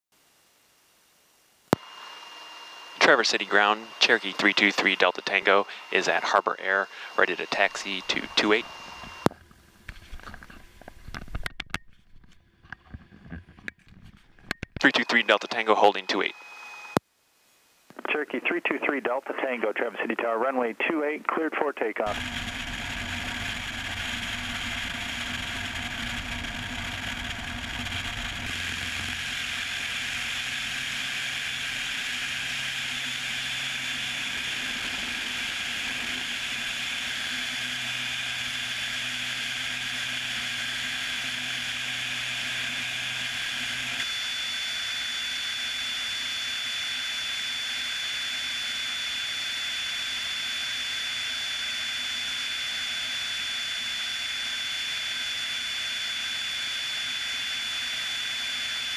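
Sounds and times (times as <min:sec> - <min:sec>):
light aircraft engine drone: 0:01.8 - 0:11.4, 0:18.0 - 0:58.9.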